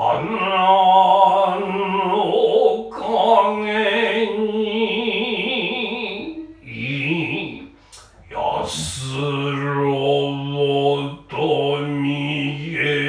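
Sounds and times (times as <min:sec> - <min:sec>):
person chanting long syllables: 0:00.0 - 0:13.0.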